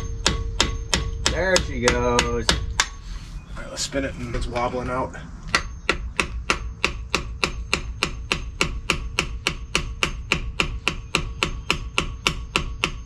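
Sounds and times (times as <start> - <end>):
hammer striking steel punch: 0.0 - 3.0, 5.5 - 13.0
metal ringing: 0.0 - 3.2, 4.2 - 13.0.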